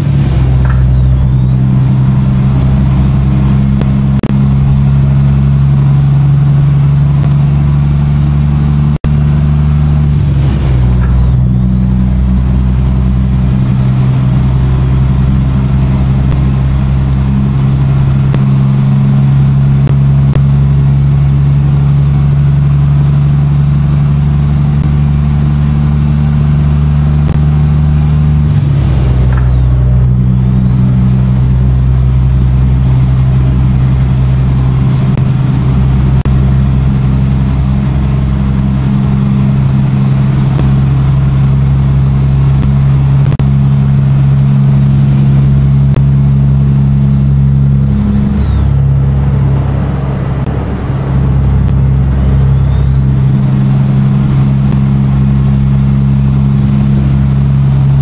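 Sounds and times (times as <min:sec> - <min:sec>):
diesel truck engine drone: 0:00.0 - 0:58.0
high engine whistle: 0:00.0 - 0:58.0.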